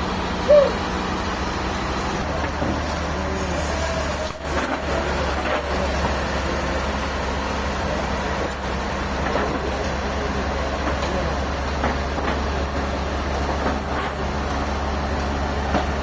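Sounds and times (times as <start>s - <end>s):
heavy engine humming: 0.0s - 16.0s.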